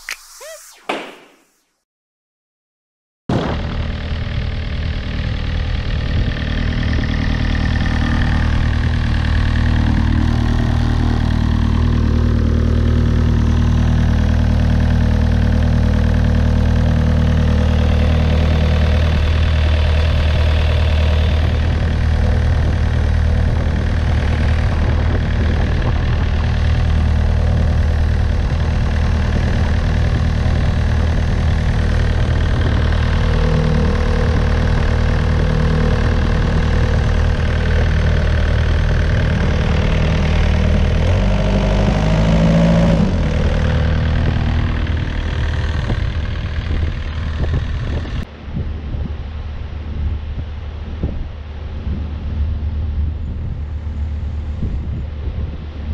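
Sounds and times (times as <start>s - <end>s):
diesel engine idling: 3.6s - 48.5s.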